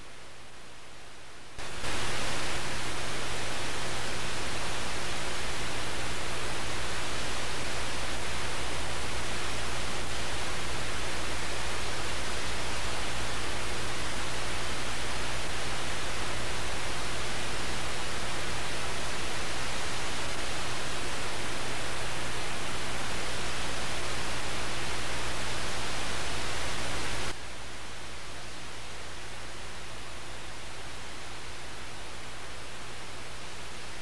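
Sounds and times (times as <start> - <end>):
tape hiss: 0.0 - 34.0.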